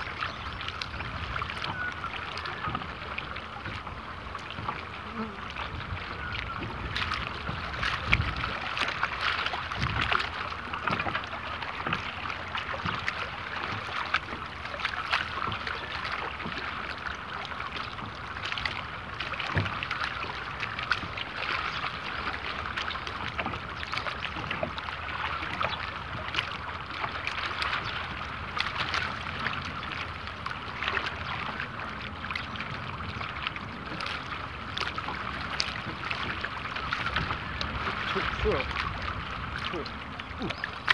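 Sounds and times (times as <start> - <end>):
water lapping and splashing: 0.0 - 40.9.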